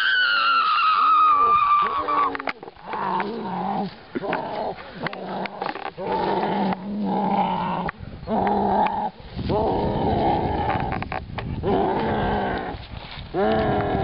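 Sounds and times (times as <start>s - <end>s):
growling: 0.0s - 14.0s.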